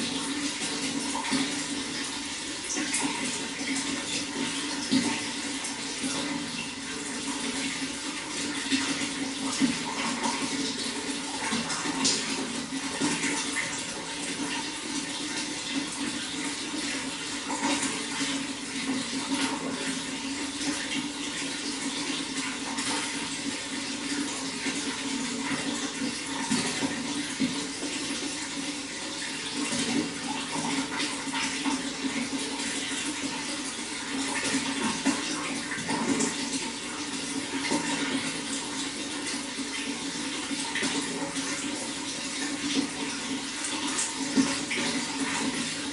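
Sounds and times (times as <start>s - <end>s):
water flowing and splashing: 0.0s - 45.9s.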